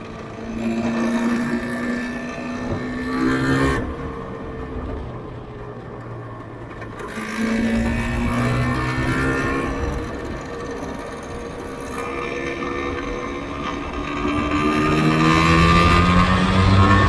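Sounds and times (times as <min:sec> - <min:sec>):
two-stroke engine under throttle: 0:00.0 - 0:17.0.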